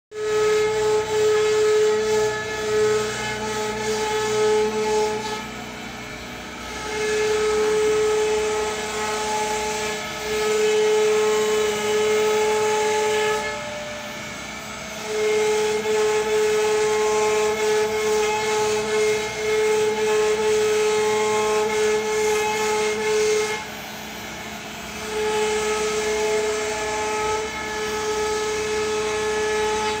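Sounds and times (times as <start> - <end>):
router bit cutting wood: 0.1 - 30.0
router spindle whine: 0.1 - 30.0.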